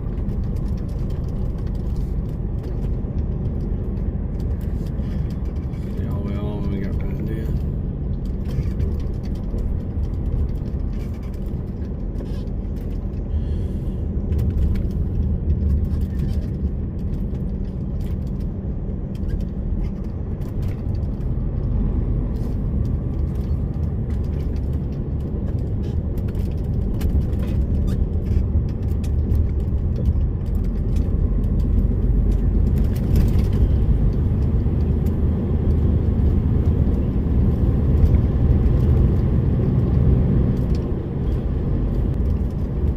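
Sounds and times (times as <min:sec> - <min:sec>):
lorry diesel engine rumble: 0:00.0 - 0:42.9.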